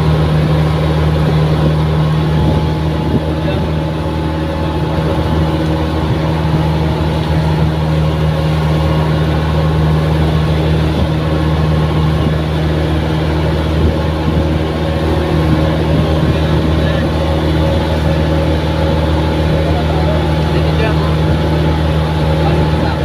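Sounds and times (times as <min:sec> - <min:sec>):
boat engine droning: 0:00.0 - 0:23.0
water splashing along hull: 0:00.0 - 0:23.0.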